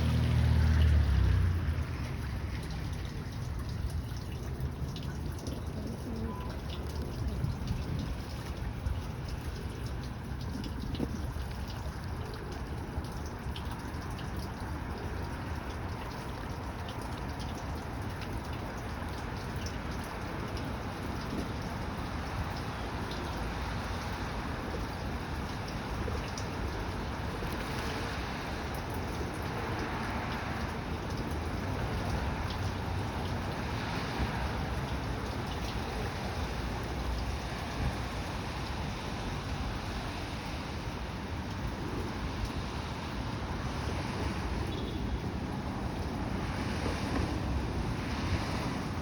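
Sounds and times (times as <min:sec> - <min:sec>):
raindrop ticks: 0:00.0 - 0:49.0
steady rain falling: 0:00.0 - 0:49.0.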